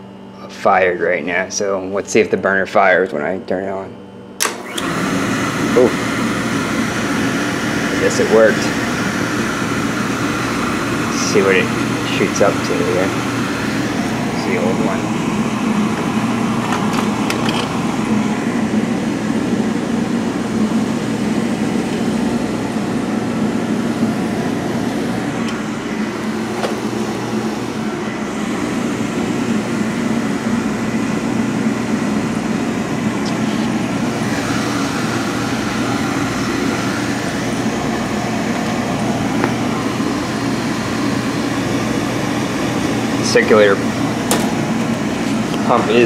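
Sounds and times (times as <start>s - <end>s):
boiler burner running: 0.0s - 46.0s.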